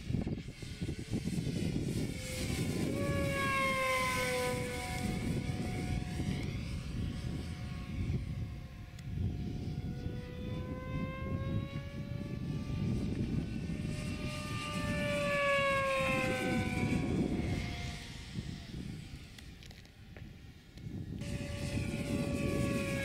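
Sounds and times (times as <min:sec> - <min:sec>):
model airplane motor whining: 0:00.0 - 0:23.0.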